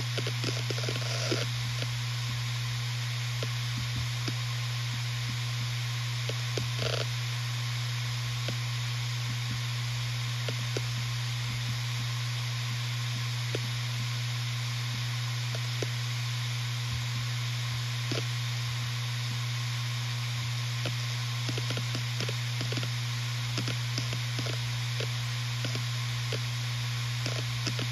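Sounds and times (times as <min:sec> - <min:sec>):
hard drive spinning hum: 0:00.0 - 0:27.9
steady hiss: 0:00.0 - 0:27.9.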